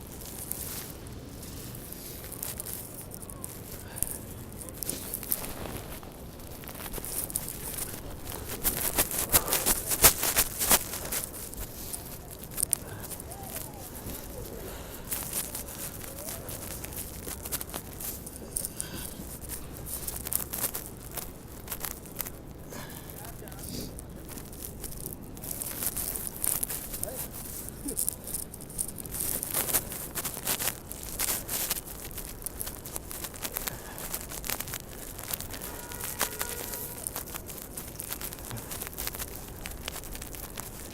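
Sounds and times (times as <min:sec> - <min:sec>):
footsteps crunching through snow: 0:00.0 - 0:40.9
low rumble of city noise: 0:00.0 - 0:40.9
street ambience: 0:00.0 - 0:40.9
faint distant voices: 0:00.4 - 0:40.9
sharp crackling clicks: 0:02.2 - 0:40.9.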